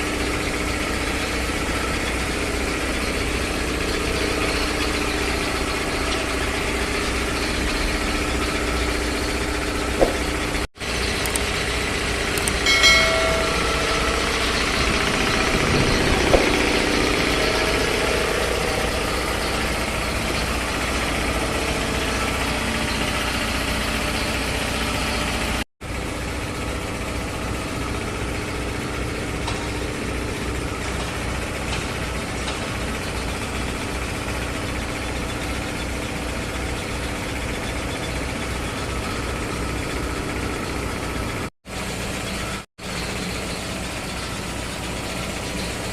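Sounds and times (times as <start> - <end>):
air compressor running: 0.0 - 45.9.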